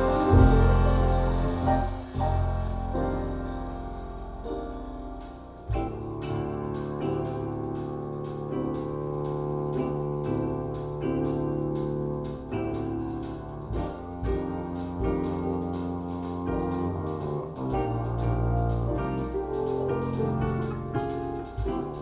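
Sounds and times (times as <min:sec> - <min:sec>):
bass line: 0:00.0 - 0:22.0
piano chords: 0:00.0 - 0:22.0
ride cymbal: 0:00.0 - 0:22.0.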